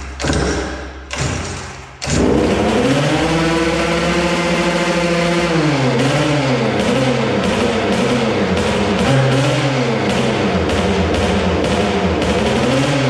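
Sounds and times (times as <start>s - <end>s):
two-stroke engine running: 2.1s - 13.0s.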